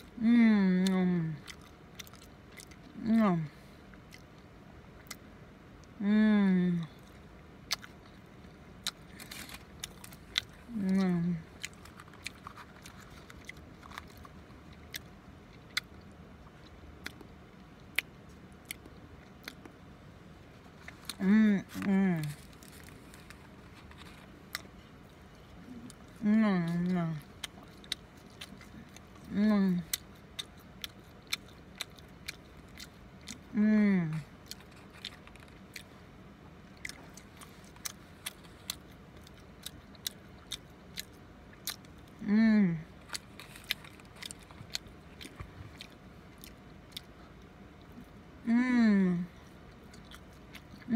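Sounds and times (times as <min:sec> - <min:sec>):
person chewing: 0:00.0 - 0:06.0, 0:06.8 - 0:48.3, 0:49.4 - 0:50.9
faint low hum: 0:00.0 - 0:50.9.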